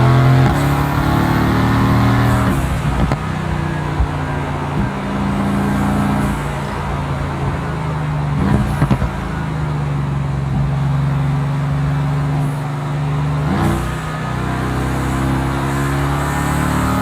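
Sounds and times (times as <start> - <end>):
car engine running: 0.0 - 17.0
engine cracks: 0.0 - 17.0.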